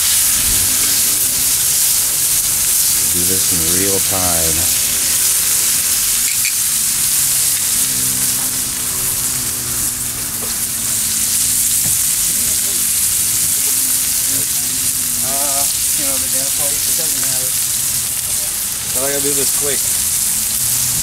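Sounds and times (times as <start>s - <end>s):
steaks sizzling in butter: 0.0s - 21.0s.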